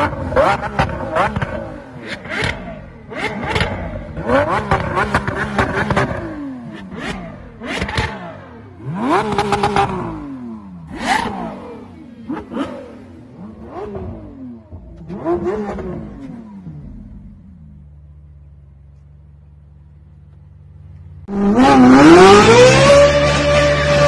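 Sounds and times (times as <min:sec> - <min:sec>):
supercar engine revving: 0:00.0 - 0:24.0.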